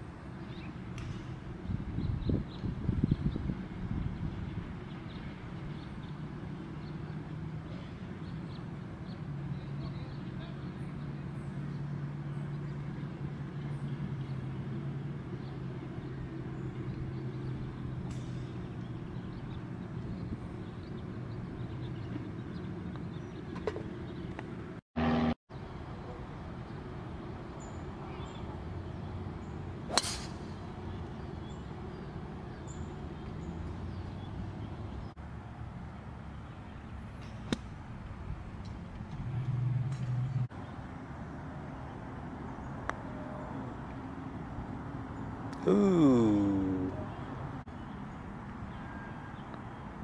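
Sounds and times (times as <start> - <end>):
distant traffic hum: 0.0 - 50.0.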